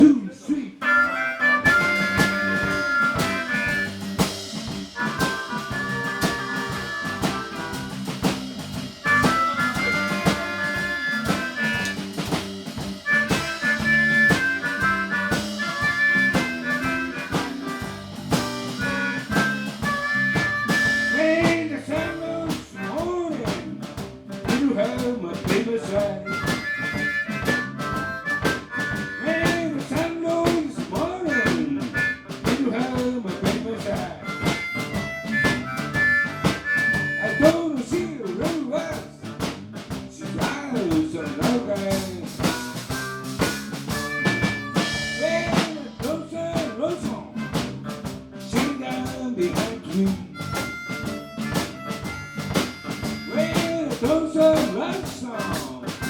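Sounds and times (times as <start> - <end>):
drum-kit beat: 0.0 - 56.0
guitar: 0.0 - 56.0
harmonica melody: 0.8 - 23.5, 25.8 - 33.1, 34.0 - 38.0, 42.3 - 56.0.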